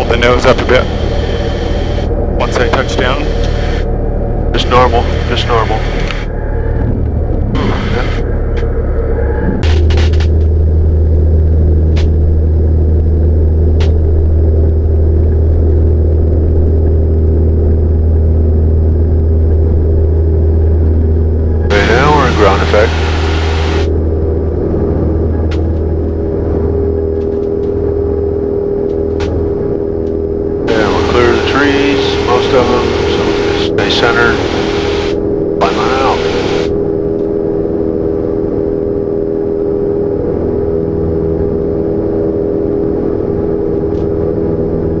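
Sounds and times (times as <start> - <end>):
airplane engine droning: 0.0 - 45.0.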